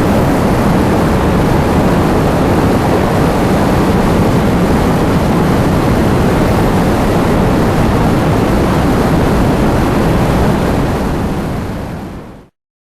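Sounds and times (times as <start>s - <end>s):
heavy rain with wind: 0.0s - 12.5s.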